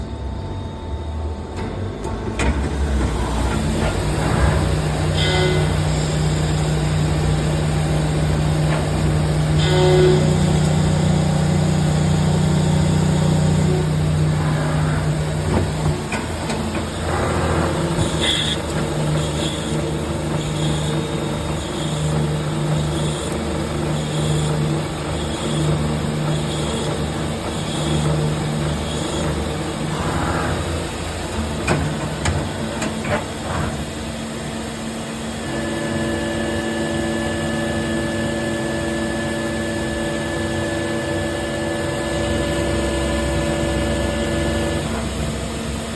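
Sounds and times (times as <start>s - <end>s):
lathe machine hum: 1.8s - 45.9s.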